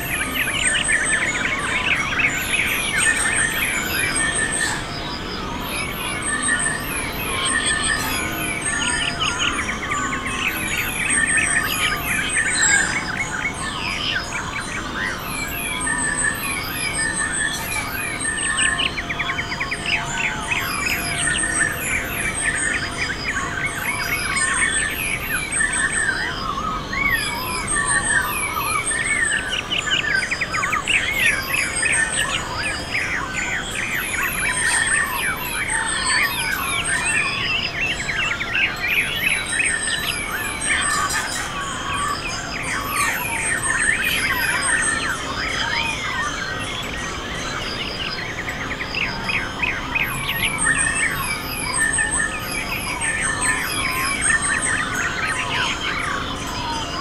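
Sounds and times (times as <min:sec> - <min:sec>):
birds singing: 0:00.0 - 0:57.0.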